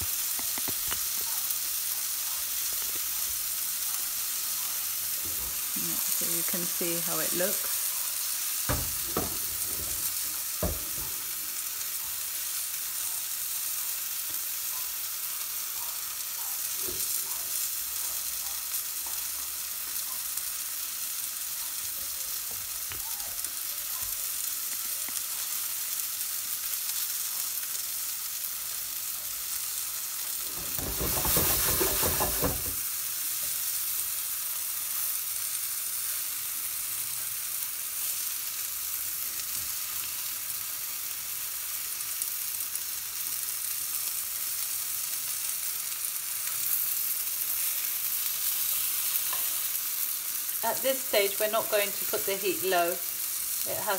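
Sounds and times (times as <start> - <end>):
chicken sizzling in hot oil: 0.0 - 53.9.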